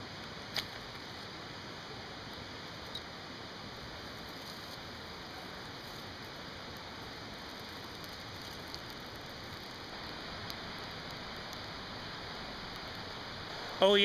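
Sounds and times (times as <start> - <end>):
campfire hissing and popping: 0.0 - 14.0.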